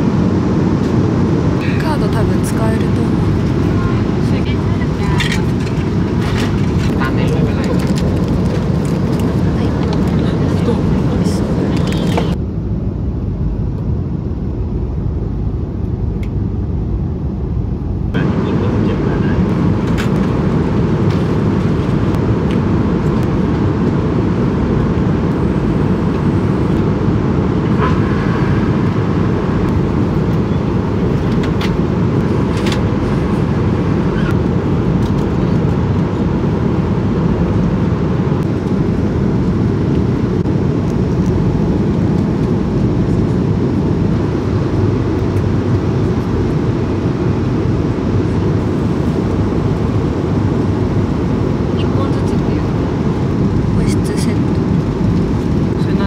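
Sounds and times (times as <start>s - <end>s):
jet engines and airflow rushing: 0.0s - 56.0s.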